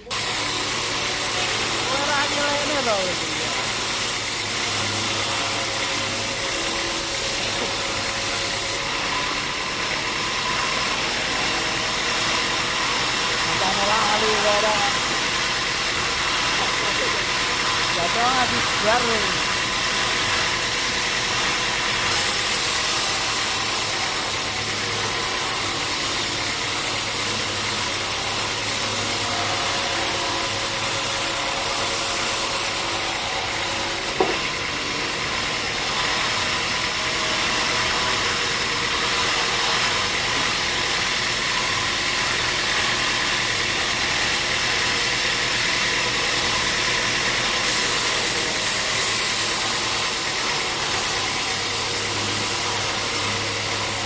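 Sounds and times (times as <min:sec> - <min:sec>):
high hiss of sawmill machinery: 0:00.0 - 0:54.0
motor humming: 0:00.0 - 0:54.0.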